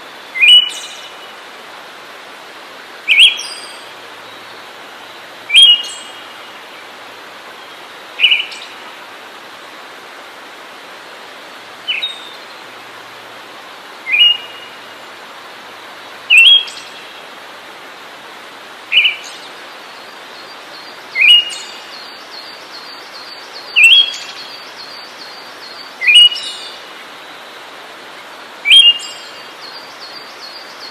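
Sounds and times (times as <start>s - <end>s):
steady hiss: 0.0s - 30.9s.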